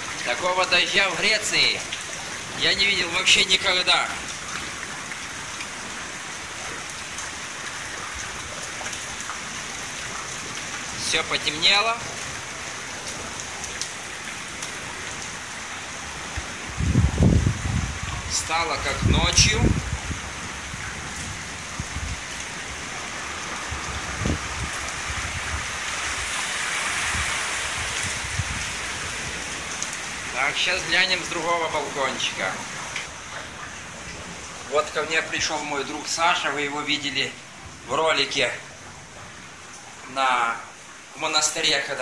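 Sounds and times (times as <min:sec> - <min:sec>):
water dripping: 0:00.0 - 0:41.2
heavy rain on pavement: 0:00.0 - 0:42.0.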